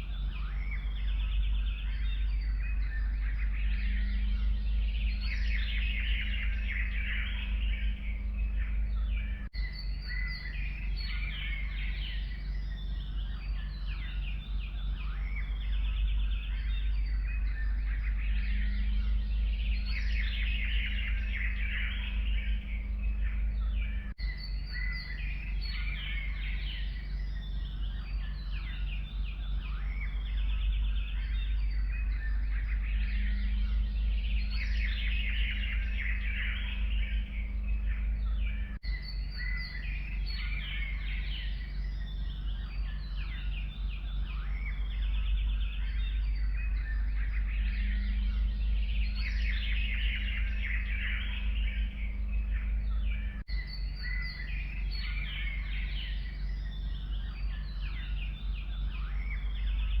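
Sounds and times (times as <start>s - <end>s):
songbirds chirping and trilling: 0.0s - 60.0s
steady low rumble: 0.0s - 60.0s.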